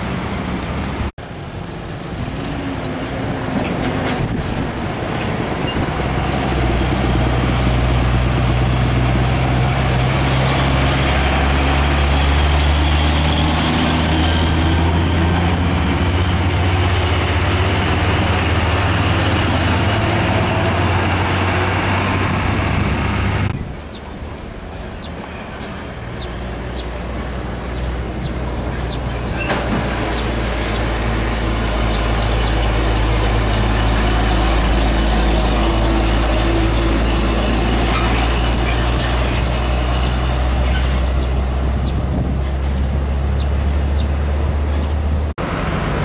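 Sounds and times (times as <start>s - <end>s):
traffic noise: 0.0s - 46.0s
truck diesel engine passing: 0.0s - 46.0s
tyre and road noise: 0.0s - 46.0s.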